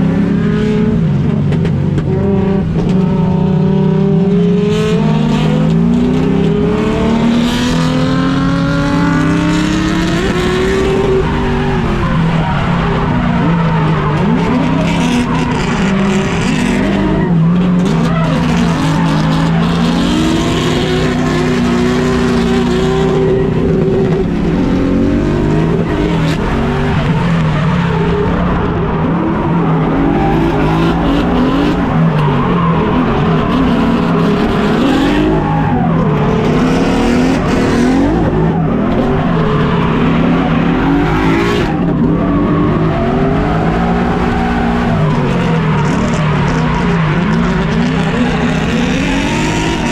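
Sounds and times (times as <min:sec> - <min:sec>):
tyres skidding and squealing: 0:00.0 - 0:49.9
car engine revving hard: 0:02.0 - 0:49.9.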